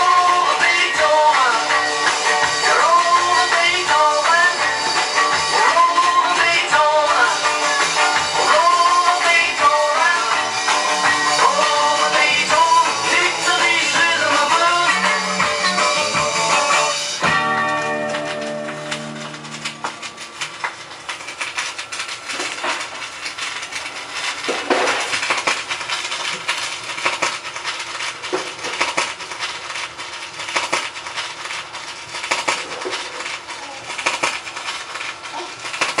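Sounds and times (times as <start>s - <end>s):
vinyl record pop: 0.0s - 31.0s
vinyl record crackle: 0.0s - 36.0s.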